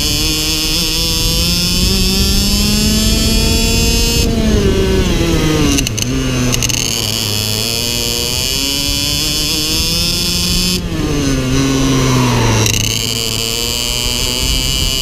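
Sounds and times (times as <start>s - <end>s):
kart engine revving: 0.0s - 15.0s.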